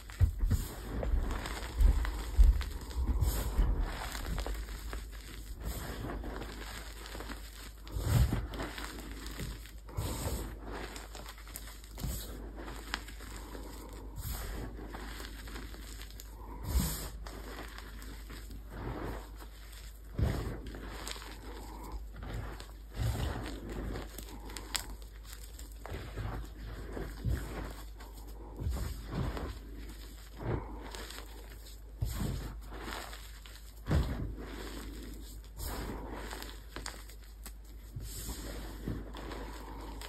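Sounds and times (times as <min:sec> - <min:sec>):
hands patting powder: 0:00.0 - 0:40.0
powder crunching and rustling: 0:00.0 - 0:40.0.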